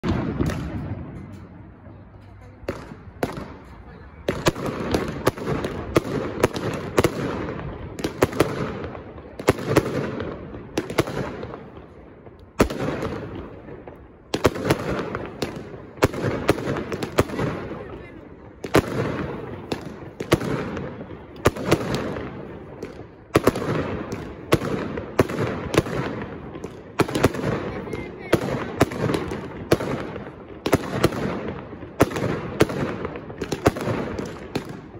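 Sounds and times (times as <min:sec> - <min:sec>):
fireworks bursting with echo: 0:00.0 - 0:34.9.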